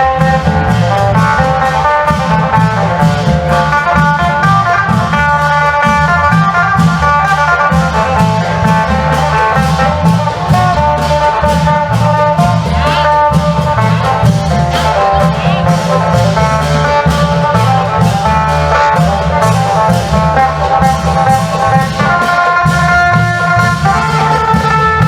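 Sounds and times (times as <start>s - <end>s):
long drum rhythm: 0.0s - 25.0s.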